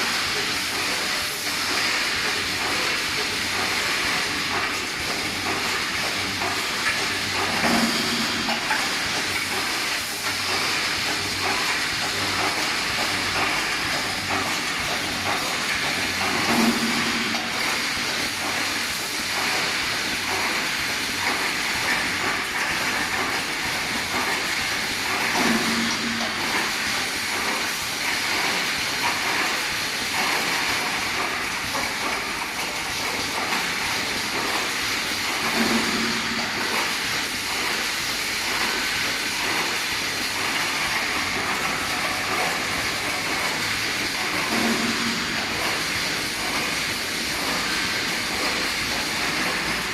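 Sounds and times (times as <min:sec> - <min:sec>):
low machine hum: 0:00.0 - 0:27.9, 0:30.8 - 0:49.9
welding machine hissing and clattering: 0:00.0 - 0:49.9.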